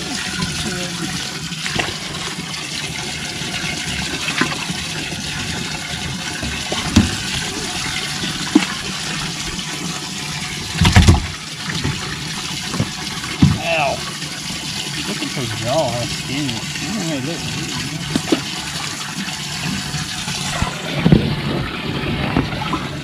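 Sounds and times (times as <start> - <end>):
fish thumping and splashing: 0.0 - 23.0
water sloshing in livewell: 0.0 - 23.0.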